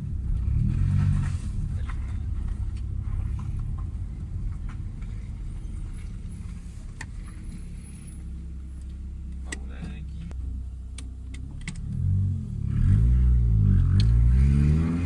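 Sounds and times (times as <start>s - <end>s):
exhaust pops and crackles: 0.0s - 13.1s
car engine revving and idling: 0.0s - 15.0s.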